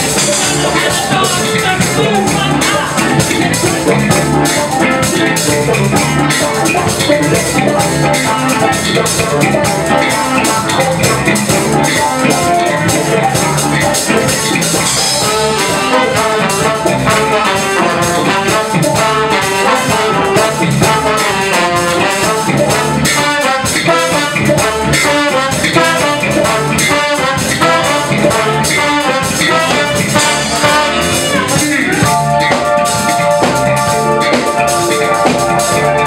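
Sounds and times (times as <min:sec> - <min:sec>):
horn section: 0:00.0 - 0:36.0
live band playing: 0:00.0 - 0:36.0.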